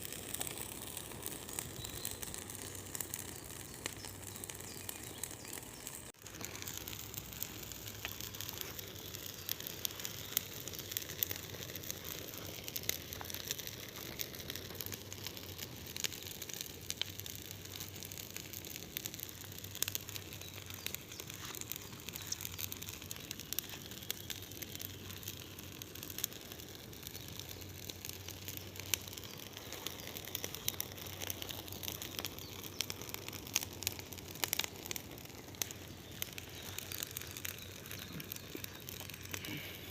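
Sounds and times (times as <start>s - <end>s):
burning wood crackling and popping: 0.0s - 39.9s
rush of bonfire flames: 0.0s - 39.9s.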